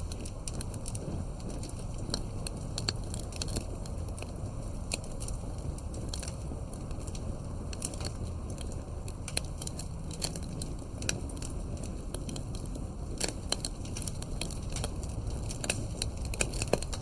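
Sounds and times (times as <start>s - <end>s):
campfire crackling and popping: 0.0s - 17.0s
low rumble of burning wood: 0.0s - 17.0s.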